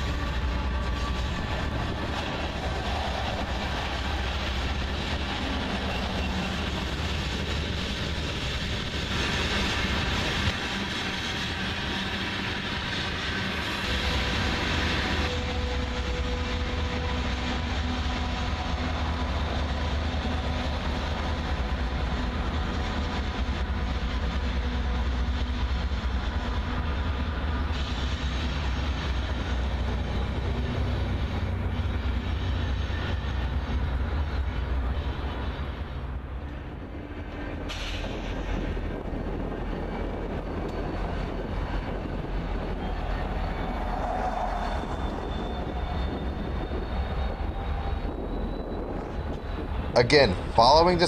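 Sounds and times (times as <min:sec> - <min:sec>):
steel wheels rumbling on rail: 0:00.0 - 0:51.0.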